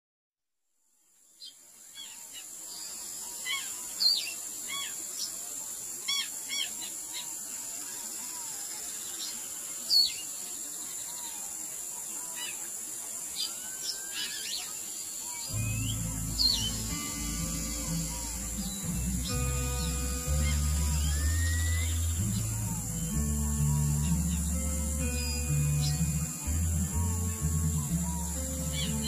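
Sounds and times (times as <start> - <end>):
steady high hiss: 1.1 - 29.0
birds chirping: 1.4 - 29.0.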